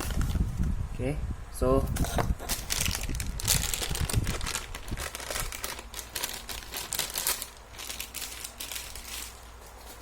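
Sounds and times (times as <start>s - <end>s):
packaging crinkling and rustling: 0.0s - 0.5s, 2.0s - 10.0s.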